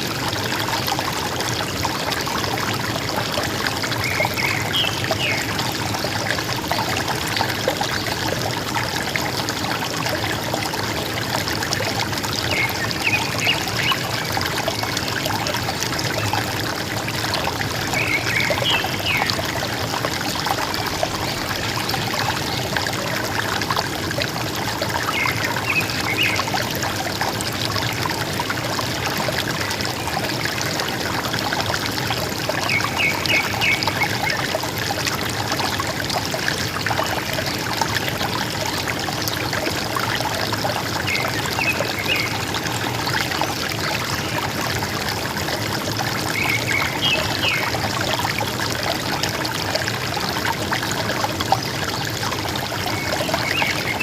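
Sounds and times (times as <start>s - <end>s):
river gurgling over stones: 0.0s - 54.0s.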